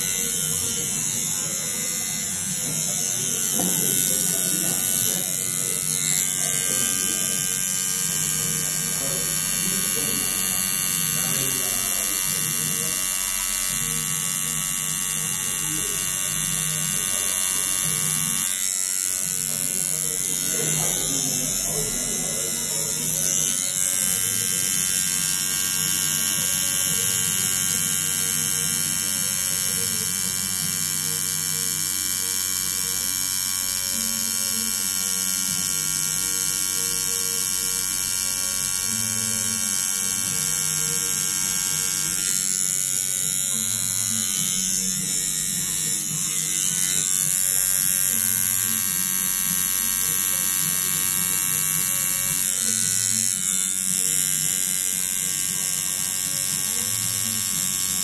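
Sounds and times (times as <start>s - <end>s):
tattoo machine buzzing: 0.0s - 58.0s.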